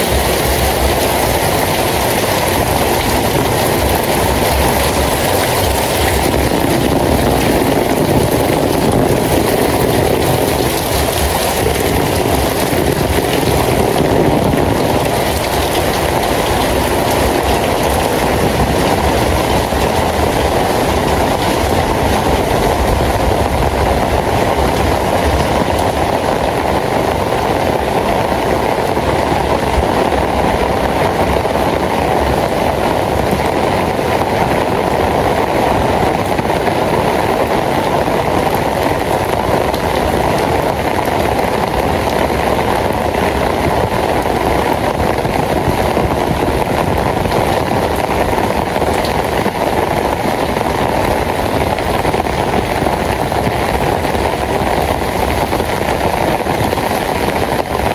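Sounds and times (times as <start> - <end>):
heavy rainfall: 0.0 - 57.9.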